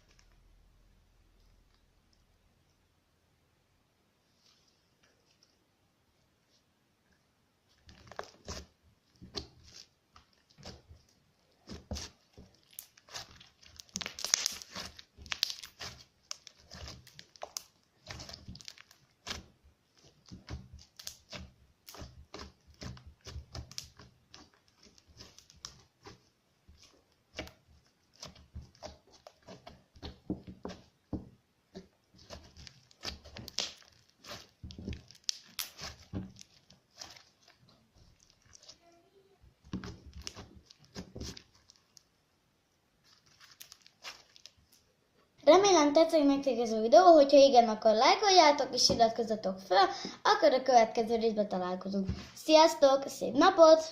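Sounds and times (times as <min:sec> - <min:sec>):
slime crackling and squishing: 0:00.0 - 0:00.7, 0:07.6 - 0:42.2, 0:42.9 - 0:53.9.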